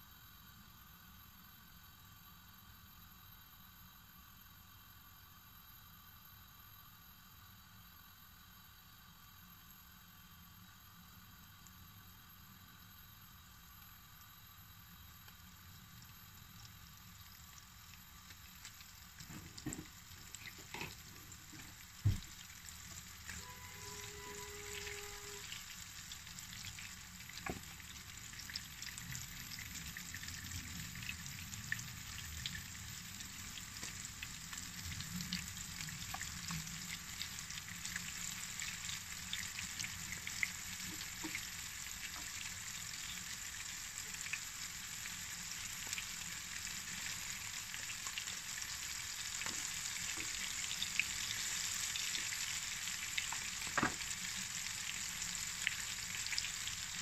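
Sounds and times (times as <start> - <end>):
fish sizzling in oil: 0.1 - 57.0.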